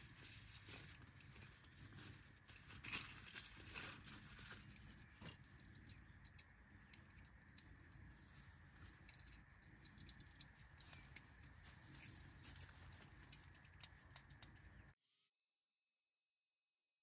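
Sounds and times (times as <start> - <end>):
small object handled rustling: 0.0 - 14.9.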